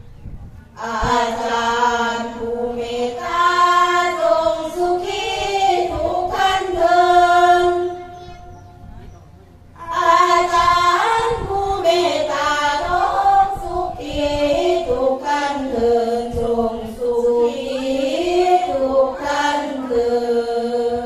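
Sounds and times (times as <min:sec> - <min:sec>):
women chanting devotional verses: 0:00.8 - 0:08.2, 0:09.8 - 0:21.0.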